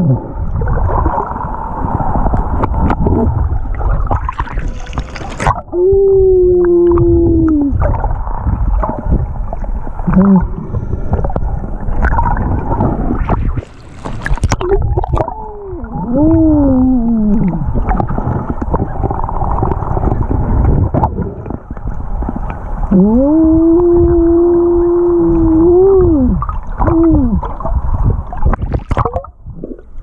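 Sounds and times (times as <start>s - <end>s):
underwater water rushing and bubbling: 0.0s - 30.0s.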